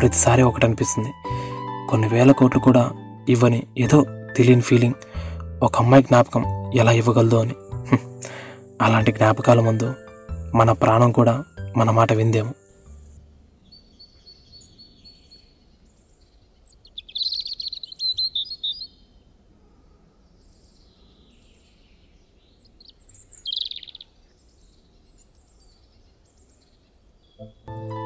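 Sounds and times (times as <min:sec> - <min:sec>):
birds chirping: 0:00.0 - 0:19.4, 0:20.3 - 0:28.0.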